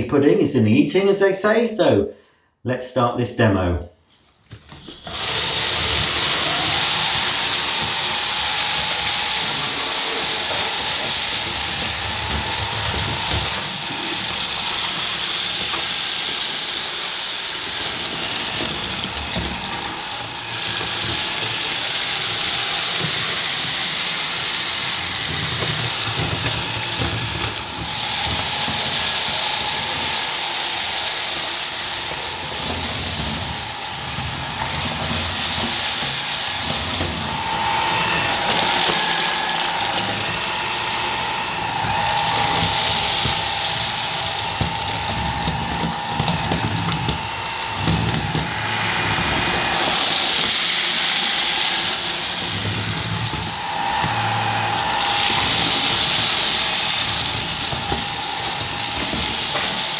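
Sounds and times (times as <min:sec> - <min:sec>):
vacuum cleaner running: 0:04.5 - 0:59.9.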